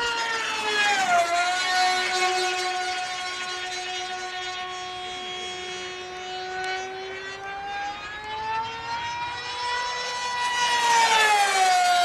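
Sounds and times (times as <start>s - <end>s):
model aircraft engine buzzing: 0.0s - 12.0s.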